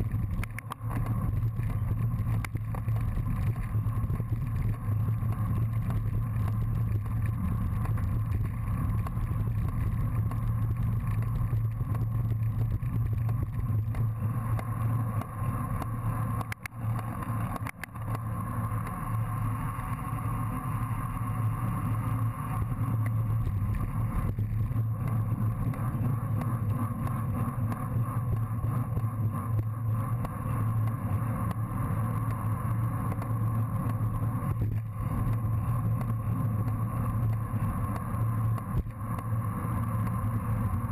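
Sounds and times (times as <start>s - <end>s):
muffled wind and road noise: 0.0s - 40.9s.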